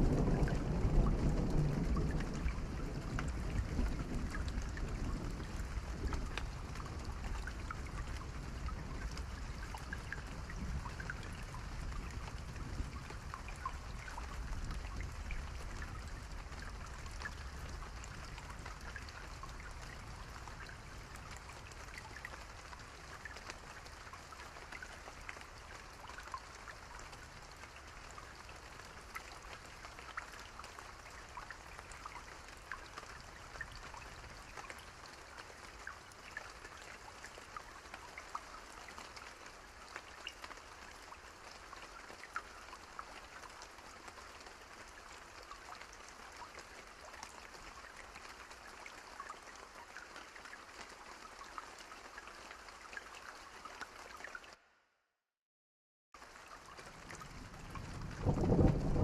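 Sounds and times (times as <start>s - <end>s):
rain drops ticking: 0.0s - 54.6s, 56.2s - 59.0s.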